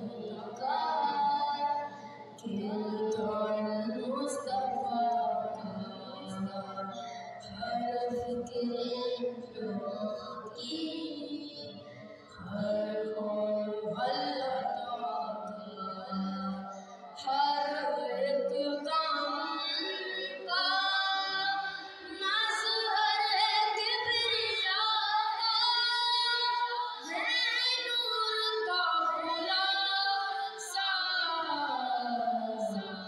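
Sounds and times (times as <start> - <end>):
boy singing into a microphone: 0.0 - 33.0.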